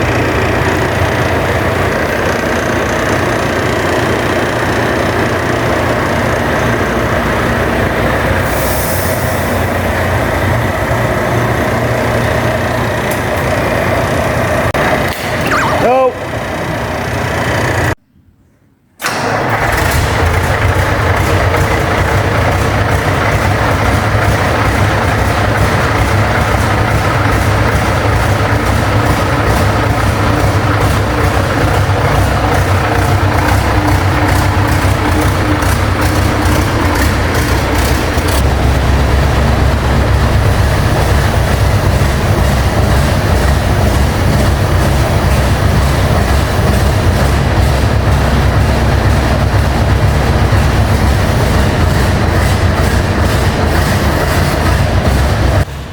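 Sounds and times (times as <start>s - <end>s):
diesel engine droning: 0.0s - 18.0s, 19.1s - 55.9s.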